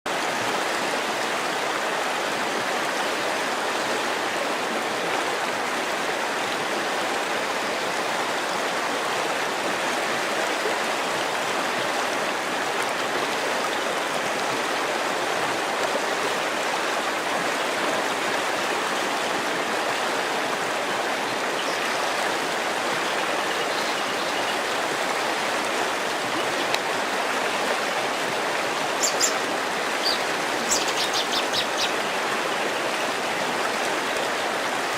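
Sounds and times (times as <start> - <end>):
river water flowing over stones: 0.1 - 34.9.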